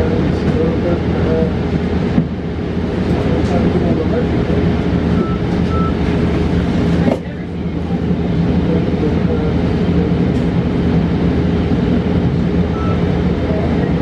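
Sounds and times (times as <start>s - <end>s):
electric bus drivetrain hum: 0.0s - 14.0s.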